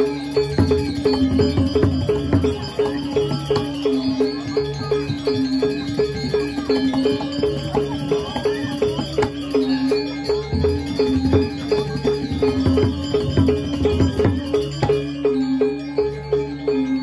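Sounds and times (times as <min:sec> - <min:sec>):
metallic gamelan pulse: 0:00.0 - 0:17.0.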